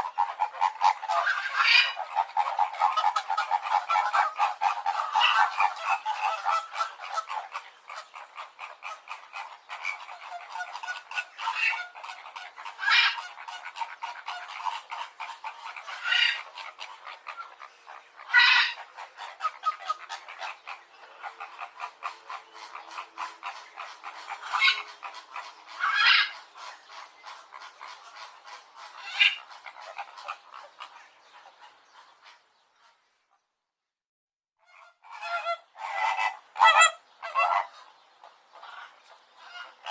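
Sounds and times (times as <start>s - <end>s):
loud bird calls: 0.0s - 33.0s
birds croaking rapidly: 0.0s - 33.1s, 34.7s - 39.9s.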